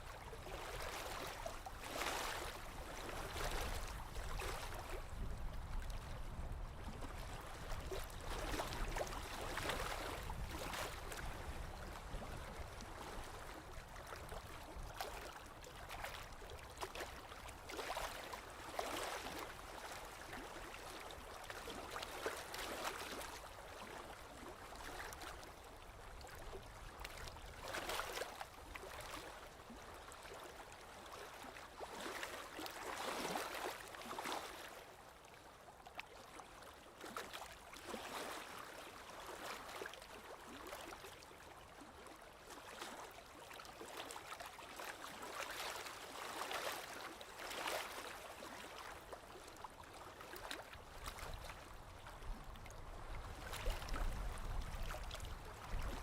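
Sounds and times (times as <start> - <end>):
small waves lapping on shore: 0.0 - 56.0.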